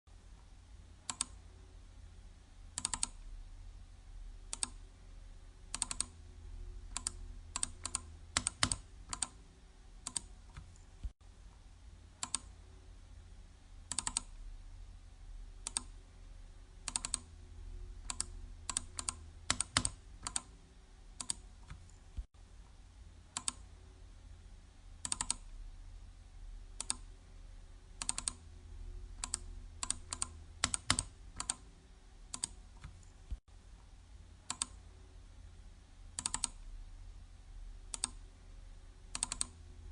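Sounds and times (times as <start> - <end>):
faint low hum: 0.1 - 39.9.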